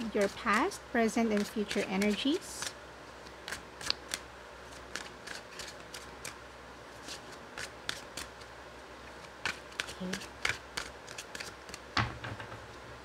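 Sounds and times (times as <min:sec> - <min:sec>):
cards being shuffled: 0:00.0 - 0:06.4, 0:07.0 - 0:08.5, 0:09.1 - 0:11.8.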